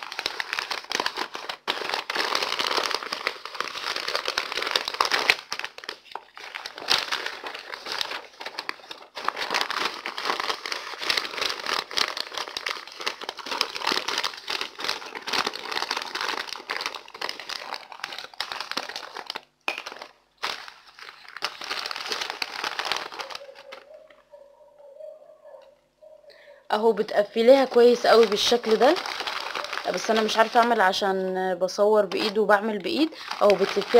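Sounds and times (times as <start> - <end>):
baking paper crinkling: 0.0 - 25.6, 26.8 - 33.9.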